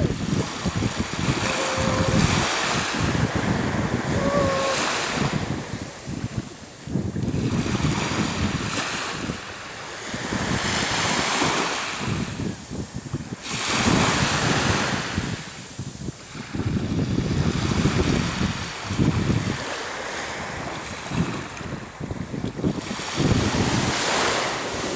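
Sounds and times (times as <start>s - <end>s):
surf washing up beach: 0.0s - 24.9s
wind buffeting microphone: 0.0s - 24.9s.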